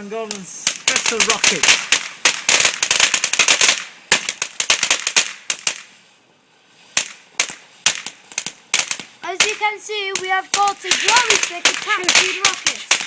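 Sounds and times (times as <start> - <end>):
firecrackers popping: 0.0 - 13.0.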